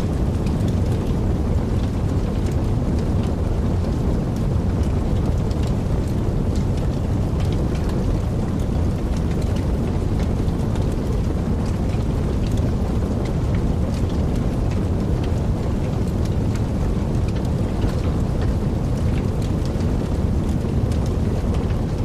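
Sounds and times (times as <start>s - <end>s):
fire burning with crackling: 0.0s - 22.0s.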